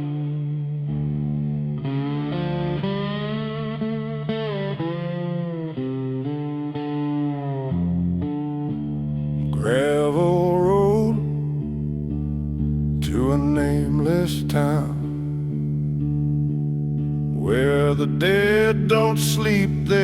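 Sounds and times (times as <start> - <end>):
distorted guitar bending notes: 0.0 - 20.0.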